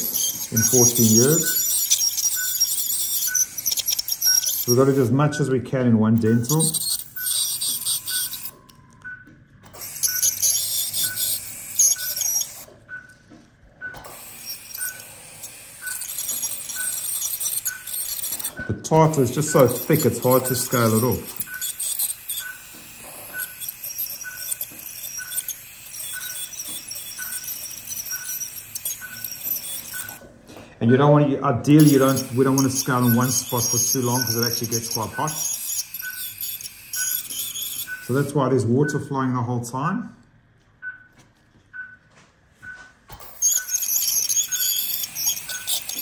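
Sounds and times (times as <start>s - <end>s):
dental scaler hissing: 0.0s - 8.7s, 9.6s - 12.8s, 13.9s - 30.2s, 31.7s - 38.4s, 43.1s - 46.0s
monitor beeping: 0.0s - 39.6s, 40.8s - 46.0s.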